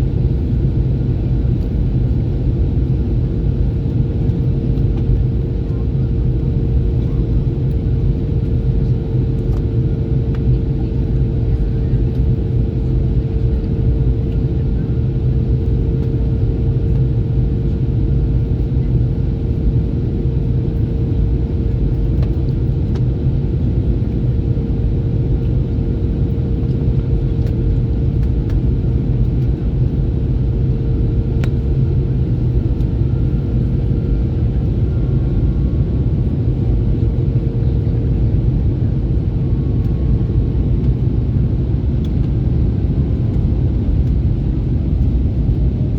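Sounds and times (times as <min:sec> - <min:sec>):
airliner cabin engine rumble: 0:00.0 - 0:45.9.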